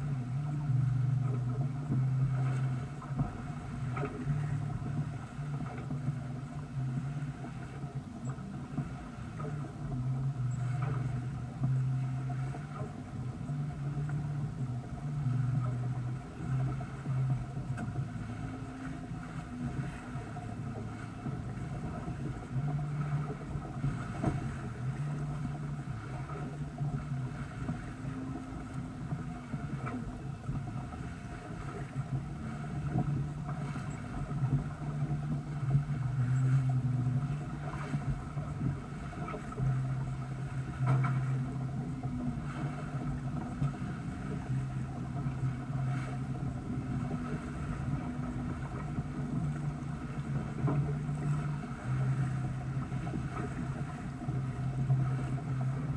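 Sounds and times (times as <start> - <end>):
water rushing along hull: 0.0 - 55.9
water splashes: 0.0 - 55.9.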